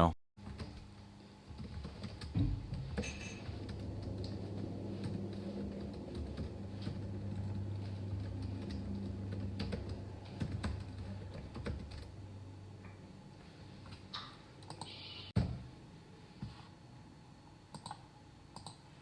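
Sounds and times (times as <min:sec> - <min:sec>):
steady low hum: 0:00.4 - 0:19.0.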